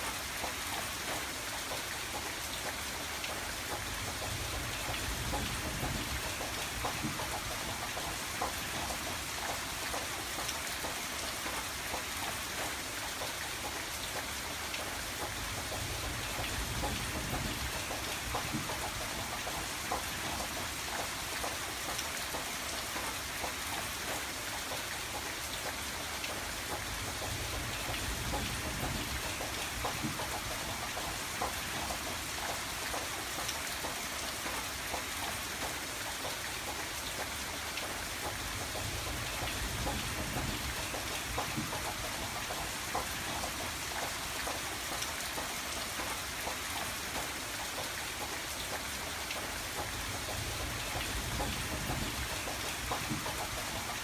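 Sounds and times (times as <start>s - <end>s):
rain pattering on window: 0.0s - 54.0s.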